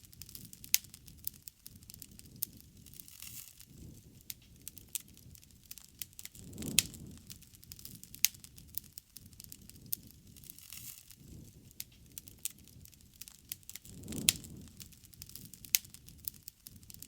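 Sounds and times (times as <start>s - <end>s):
bonfire crackling: 0.0s - 17.0s
flames rushing: 0.0s - 17.0s.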